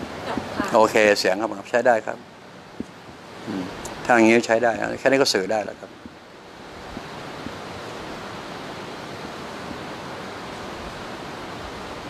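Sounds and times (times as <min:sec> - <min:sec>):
steady even hiss: 0:00.0 - 0:12.0.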